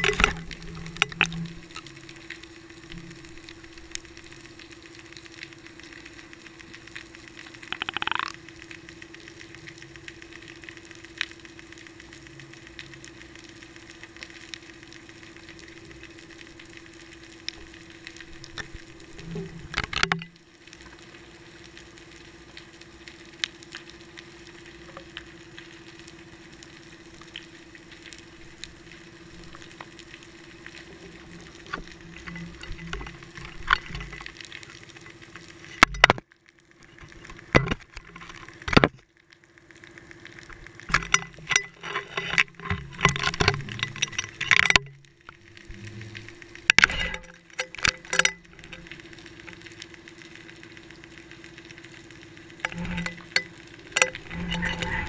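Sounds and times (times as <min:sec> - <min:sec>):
underwater hiss and low hum: 0:00.0 - 0:55.0.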